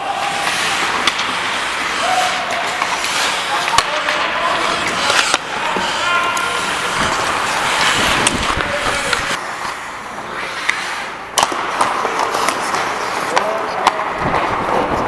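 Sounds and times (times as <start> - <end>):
skate blades scraping on ice: 0.0 - 15.0.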